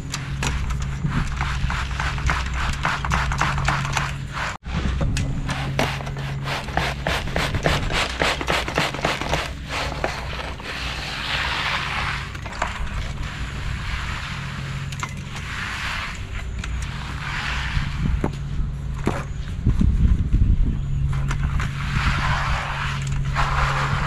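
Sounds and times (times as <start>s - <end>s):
hand tools scraping wet concrete: 0.0s - 18.4s, 21.3s - 24.0s
steady low hum: 0.0s - 24.0s.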